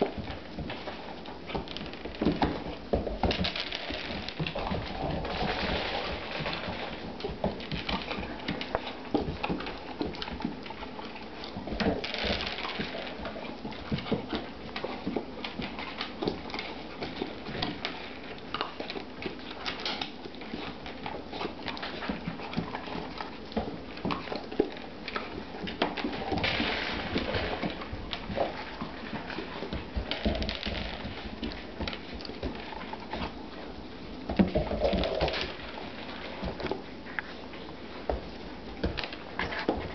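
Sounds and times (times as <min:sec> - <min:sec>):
puppy crunching kibble: 0:00.0 - 0:39.9.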